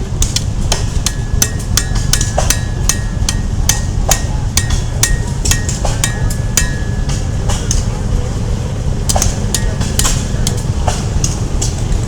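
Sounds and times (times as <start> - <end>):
steady low rumble: 0.0 - 12.0
hammer striking metal on anvil: 0.2 - 8.0, 9.1 - 11.7.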